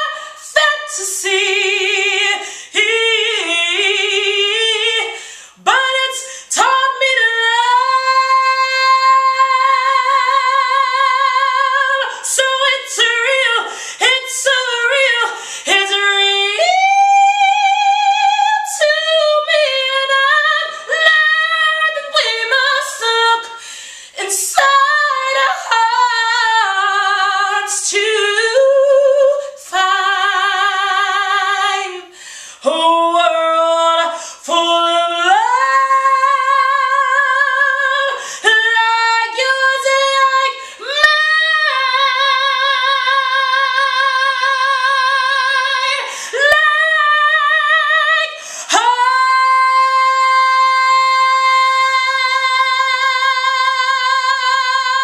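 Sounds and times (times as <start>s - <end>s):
woman singing a cappella: 0.0s - 55.0s.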